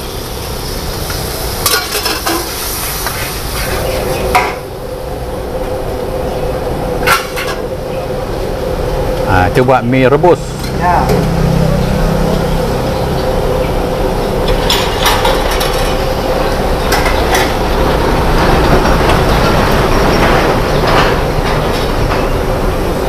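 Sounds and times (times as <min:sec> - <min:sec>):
loud mechanical roar: 0:00.0 - 0:23.0.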